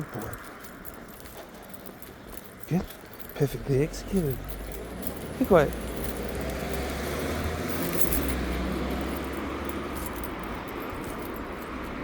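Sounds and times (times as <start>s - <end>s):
metallic jingling ticks: 0.0s - 12.0s
road traffic rumble: 0.0s - 12.0s.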